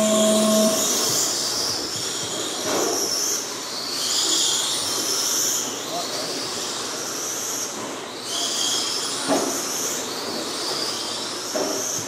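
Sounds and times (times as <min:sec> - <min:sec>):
rc car motors whining: 0:00.0 - 0:12.0.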